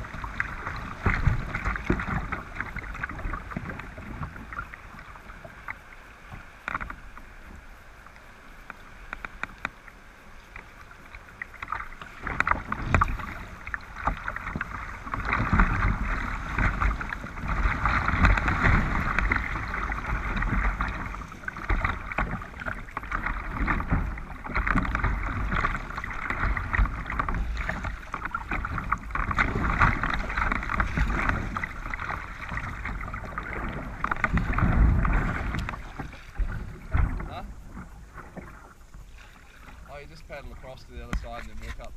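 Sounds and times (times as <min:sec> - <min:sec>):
river water rushing and splashing: 0:00.0 - 0:41.9.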